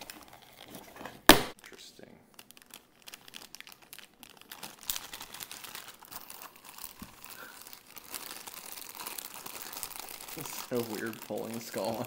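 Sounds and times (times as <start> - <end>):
plastic bag crinkling: 0.0 - 1.0, 1.6 - 12.0.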